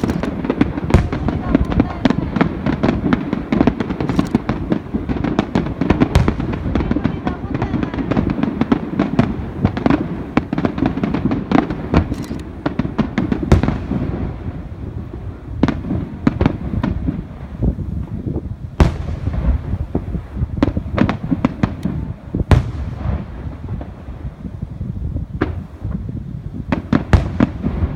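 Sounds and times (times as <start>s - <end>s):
loud firework bangs: 0.0s - 24.5s, 25.3s - 27.9s
fireworks cracks and bangs: 0.0s - 24.6s, 25.3s - 27.9s.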